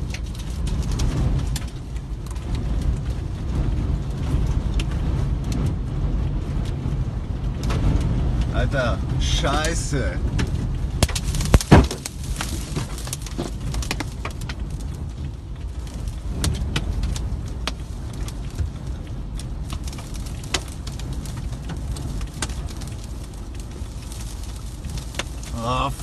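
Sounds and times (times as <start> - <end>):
grit and debris ticking: 0.0 - 26.0
strong storm wind buffeting: 0.0 - 26.0.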